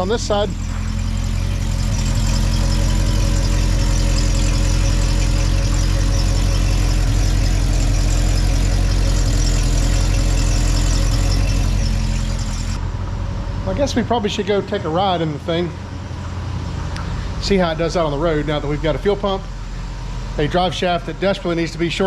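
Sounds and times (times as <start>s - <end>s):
exhaust rattle: 0.0s - 22.0s
v eight engine idling: 0.0s - 22.0s.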